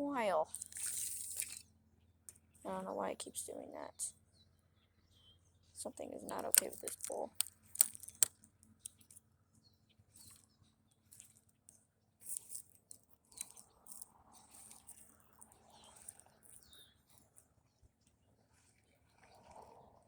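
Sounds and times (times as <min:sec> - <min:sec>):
faint high ticks and chirps: 0:00.4 - 0:19.7.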